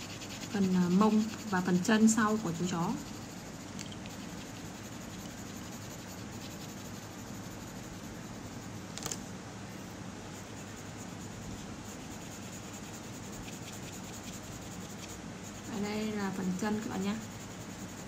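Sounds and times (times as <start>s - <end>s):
pencil scratching on paper: 0.0s - 8.8s, 10.3s - 18.0s.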